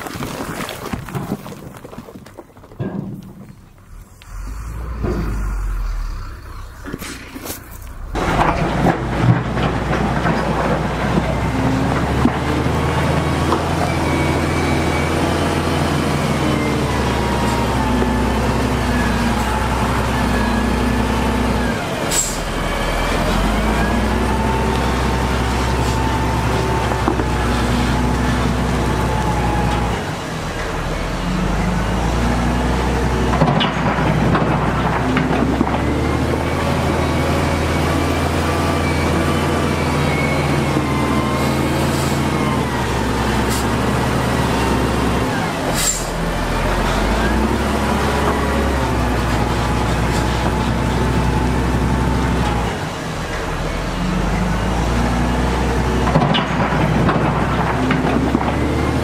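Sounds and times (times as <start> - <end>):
heavy diesel engines running: 2.8 - 59.0.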